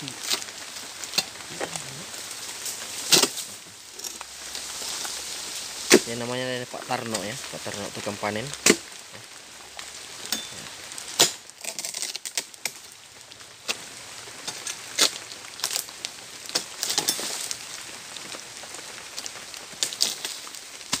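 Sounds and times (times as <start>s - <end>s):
rain pattering on foliage: 0.0s - 21.0s
sickle cracking and knocking fronds: 0.0s - 21.0s.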